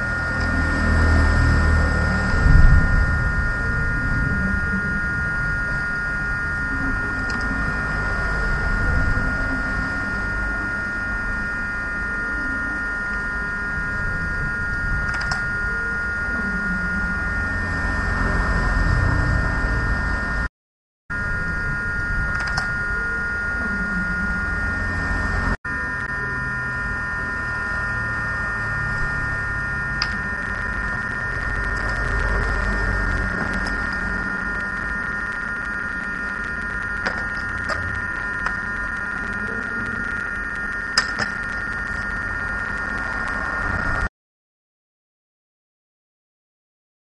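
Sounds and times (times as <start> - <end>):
electrical whine: 0.0 - 20.5, 21.1 - 44.1
low hum: 0.0 - 20.5, 21.1 - 44.1.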